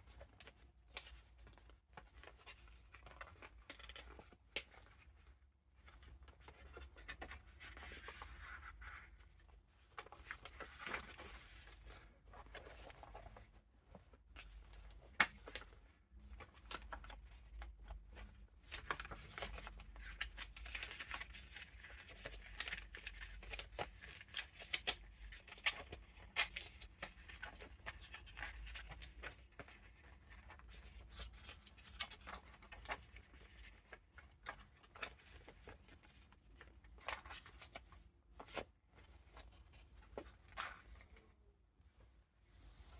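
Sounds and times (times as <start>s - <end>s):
paper rustling and crinkling: 0.0s - 42.9s.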